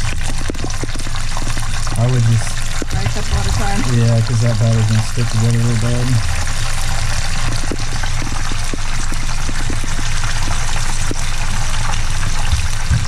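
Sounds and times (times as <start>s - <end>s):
food deep-frying in oil: 0.0s - 13.0s
low hum: 0.0s - 13.0s.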